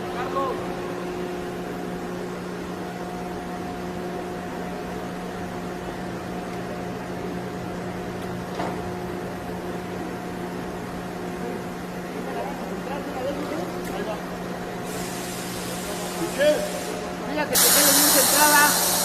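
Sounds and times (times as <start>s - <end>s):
conveyor machinery humming: 0.0s - 19.0s.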